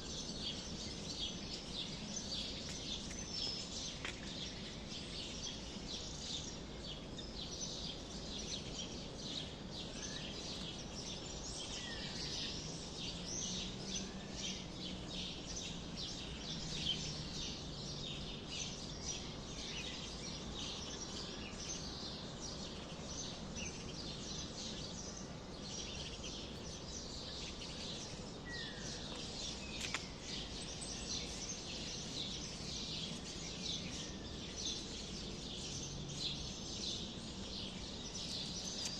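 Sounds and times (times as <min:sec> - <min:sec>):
small birds chirping chorus: 0:00.0 - 0:38.9.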